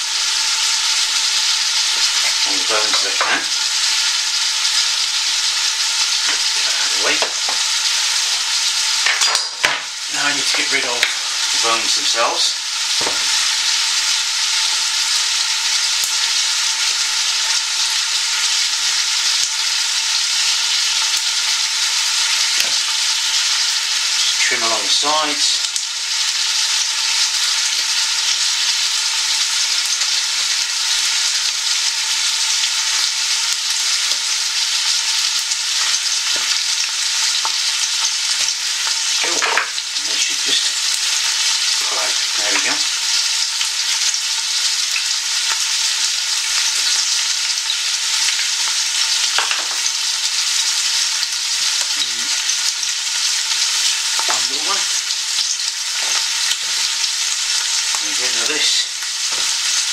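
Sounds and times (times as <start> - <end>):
onions sizzling in a hot pan: 0.0 - 59.9.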